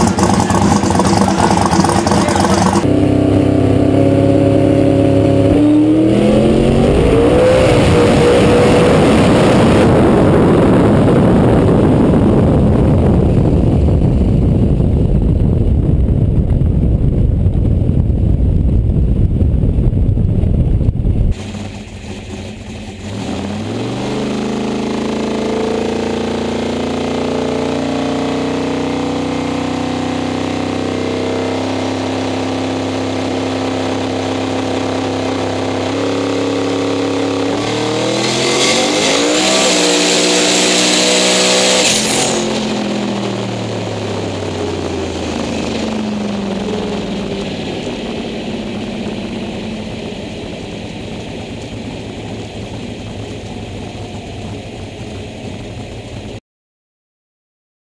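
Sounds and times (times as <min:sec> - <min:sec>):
race car engine revving: 0:00.0 - 0:12.0, 0:21.4 - 0:56.0.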